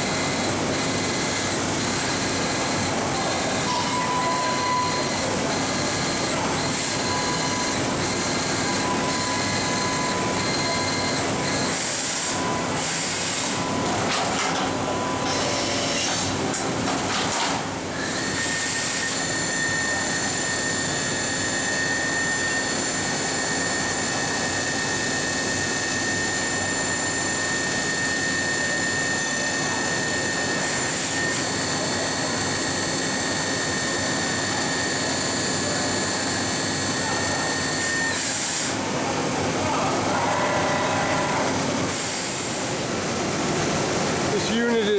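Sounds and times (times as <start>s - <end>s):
machine running with high whine: 0.0s - 44.9s.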